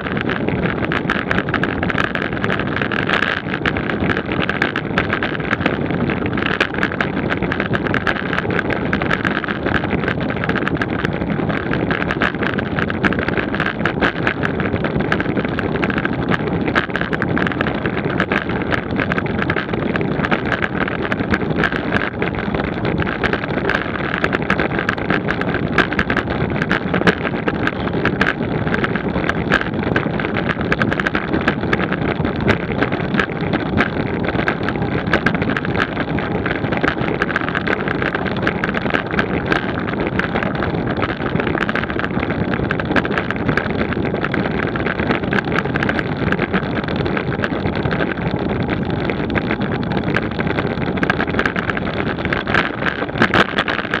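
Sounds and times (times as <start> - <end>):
small clicks and rattles: 0.0 - 54.0
wind rushing over microphone: 0.0 - 54.0.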